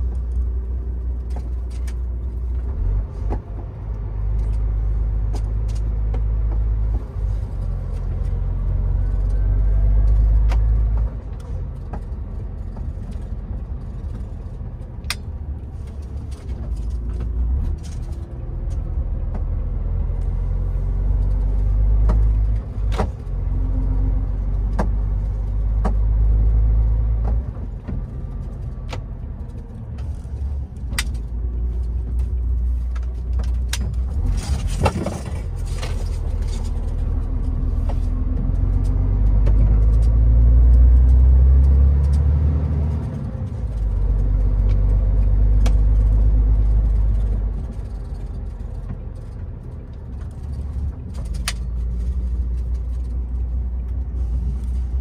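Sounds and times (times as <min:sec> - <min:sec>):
sharp clicks and knocks: 0:00.0 - 0:20.4, 0:21.0 - 0:54.8
low vehicle rumble: 0:00.0 - 0:55.0.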